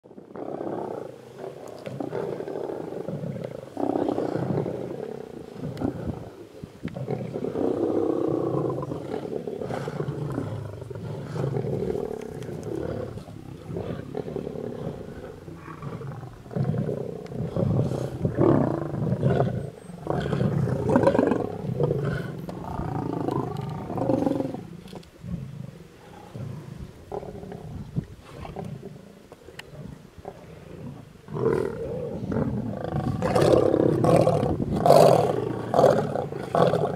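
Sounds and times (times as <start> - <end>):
lions growling: 0.2 - 36.9.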